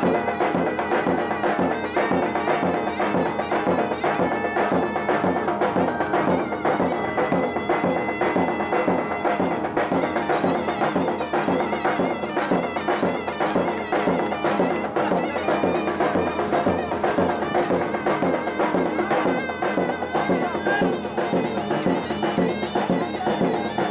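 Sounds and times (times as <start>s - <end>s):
reedy wind instrument melody: 0.0s - 23.9s
steady drum beat: 0.0s - 23.9s.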